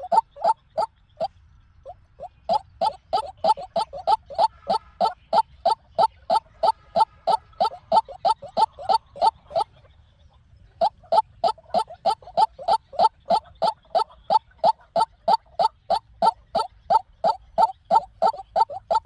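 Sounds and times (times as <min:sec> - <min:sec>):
waterhen calling: 0:00.0 - 0:09.8, 0:10.8 - 0:19.0.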